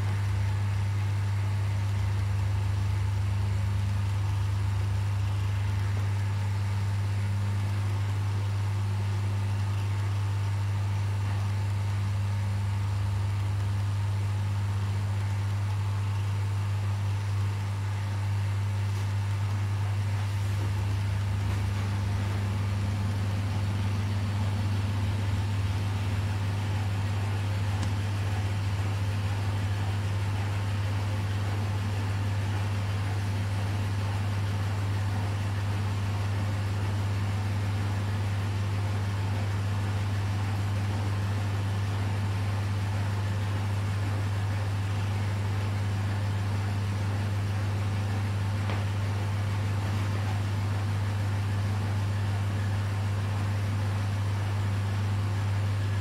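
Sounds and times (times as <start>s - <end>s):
aquarium pump hiss: 0.0s - 56.0s
low mains hum: 0.0s - 56.0s.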